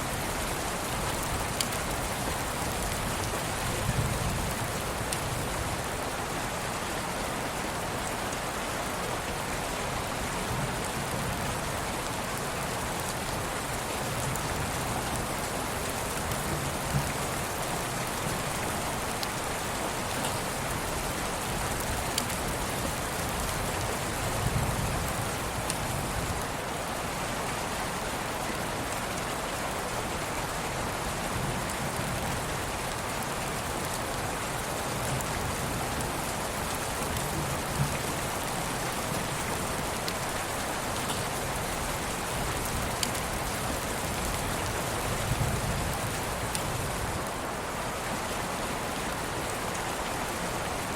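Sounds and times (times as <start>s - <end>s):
rain hiss: 0.0s - 50.9s.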